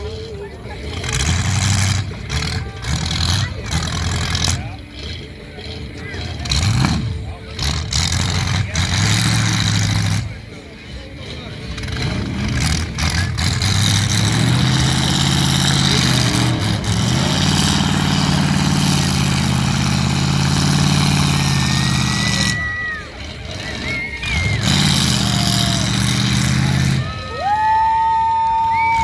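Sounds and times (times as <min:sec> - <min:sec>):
trucks passing: 0:00.0 - 0:29.0.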